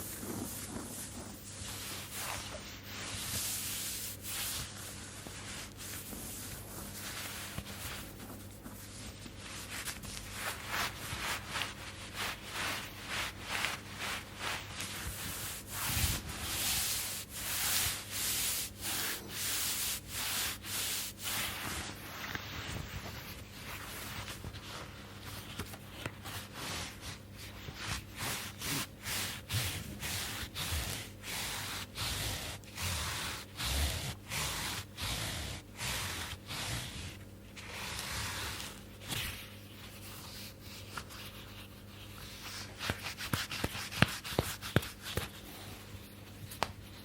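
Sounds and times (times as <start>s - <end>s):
hands rubbing skin: 0.0s - 47.0s.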